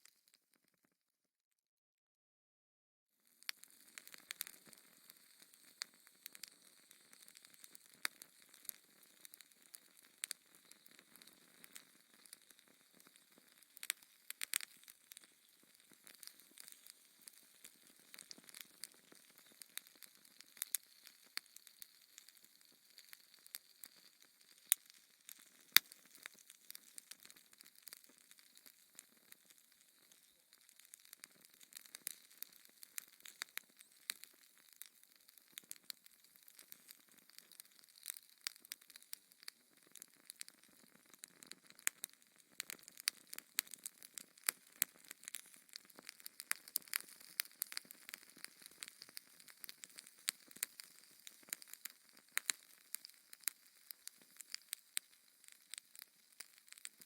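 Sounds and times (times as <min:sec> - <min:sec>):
wood fire crackling: 0:03.4 - 0:57.0.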